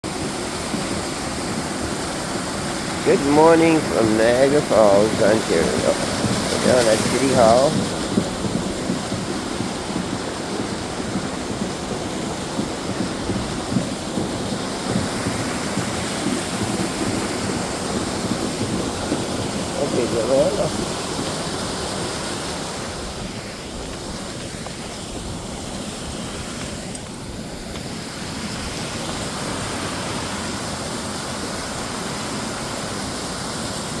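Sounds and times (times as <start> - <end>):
rushing water: 0.0 - 34.0.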